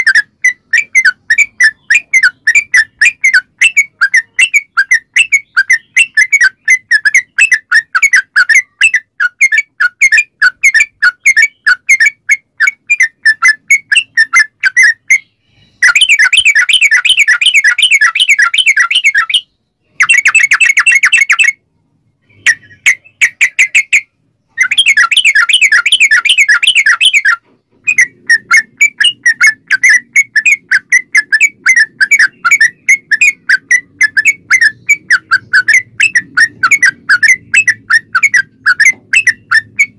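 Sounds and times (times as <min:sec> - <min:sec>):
bulbul singing: 0:00.0 - 0:21.6, 0:22.2 - 0:39.9.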